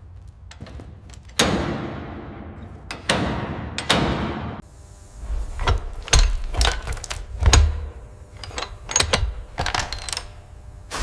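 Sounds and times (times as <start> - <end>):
metallic clanks and knocks: 0.5 - 4.6, 5.6 - 10.4.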